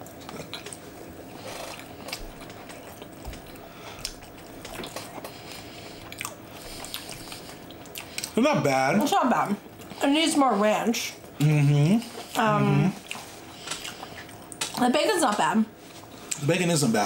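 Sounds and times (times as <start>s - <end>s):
people chewing fries: 0.0s - 17.0s.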